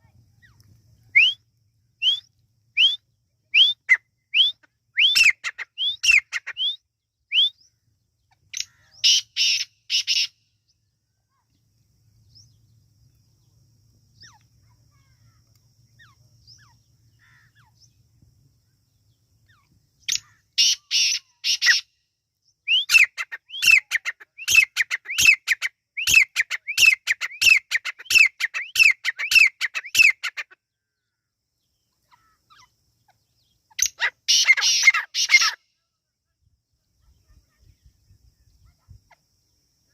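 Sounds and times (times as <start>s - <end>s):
francolin calling: 0.3s - 11.6s, 12.2s - 35.8s.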